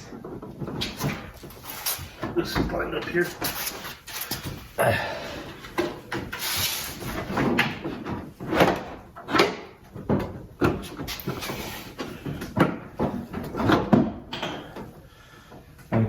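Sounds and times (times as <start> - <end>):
plastic bumper knocking and scraping: 0.0 - 4.8, 5.5 - 14.9.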